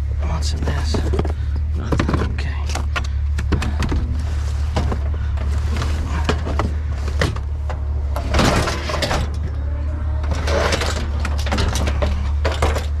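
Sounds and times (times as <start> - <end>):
truck engine idling: 0.0 - 13.0
scrap rattling and knocking: 0.3 - 13.0.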